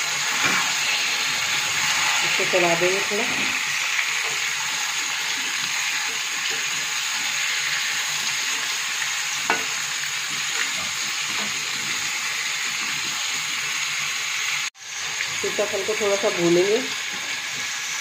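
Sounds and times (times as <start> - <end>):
pumpkin frying in oil: 0.0 - 18.0.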